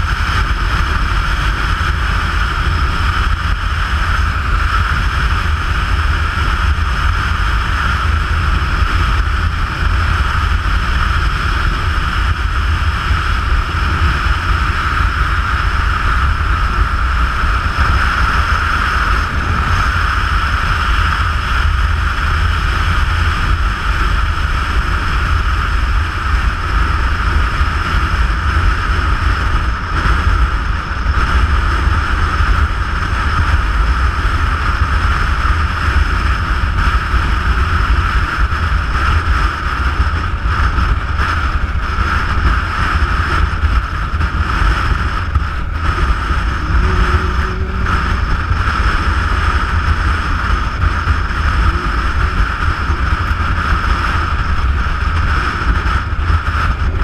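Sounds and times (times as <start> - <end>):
engine and tyre noise: 0.0 - 57.0
vehicle road rumble: 0.0 - 57.0
wind buffeting: 0.0 - 57.0.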